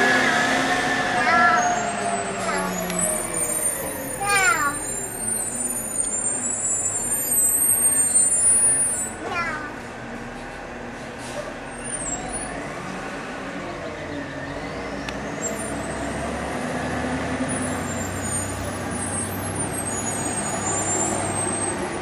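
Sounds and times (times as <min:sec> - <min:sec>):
truck diesel engines running: 0:00.0 - 0:22.0.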